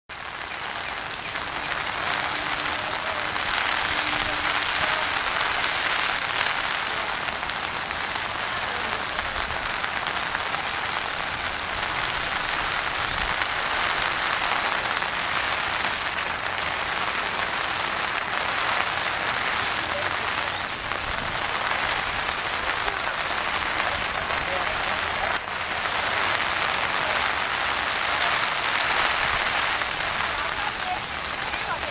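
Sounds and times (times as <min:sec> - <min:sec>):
rain falling on pond water: 0:00.1 - 0:31.9.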